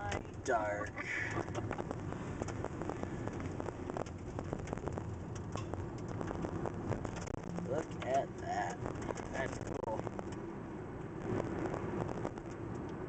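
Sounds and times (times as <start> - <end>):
tyres and engine rumbling: 0.0 - 13.0
sharp ticks on car: 1.2 - 11.1, 11.7 - 13.0.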